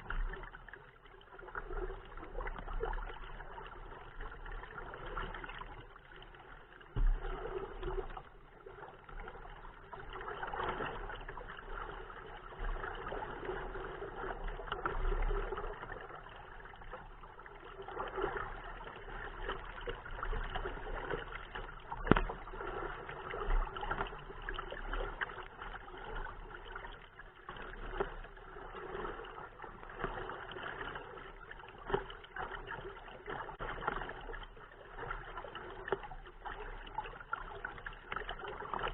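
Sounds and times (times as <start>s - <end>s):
water splashing against kayak hull: 0.0s - 38.9s.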